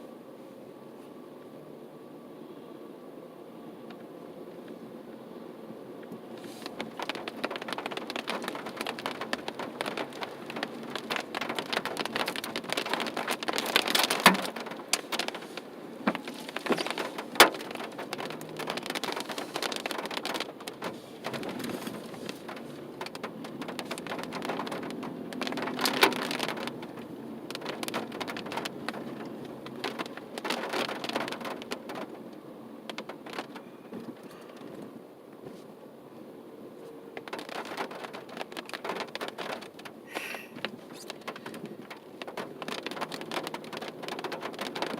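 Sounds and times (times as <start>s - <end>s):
freezing rain pattering on car: 3.9s - 44.9s.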